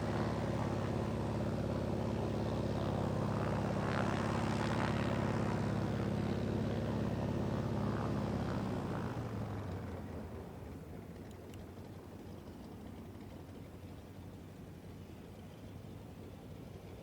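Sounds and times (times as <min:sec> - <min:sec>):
radial aircraft engine and propeller: 0:00.0 - 0:17.0.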